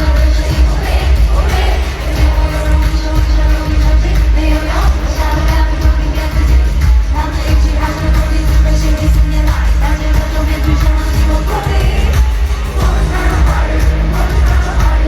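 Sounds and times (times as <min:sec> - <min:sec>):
live pop concert music: 0:00.0 - 0:15.0
woman singing: 0:00.0 - 0:15.0.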